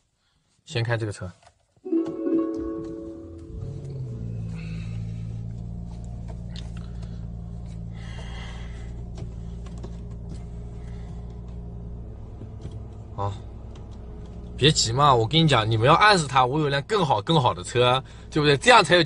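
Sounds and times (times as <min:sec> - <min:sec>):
engine hum inside cabin: 0:02.6 - 0:19.0.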